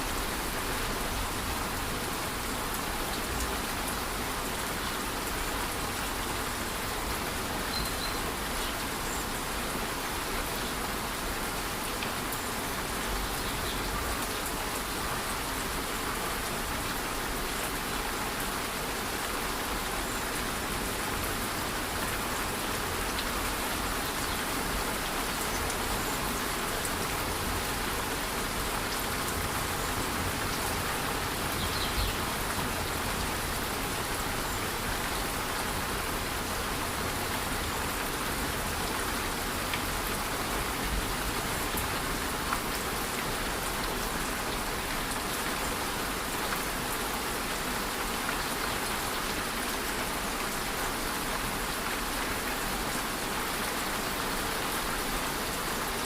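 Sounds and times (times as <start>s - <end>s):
light rain: 0.0s - 56.0s.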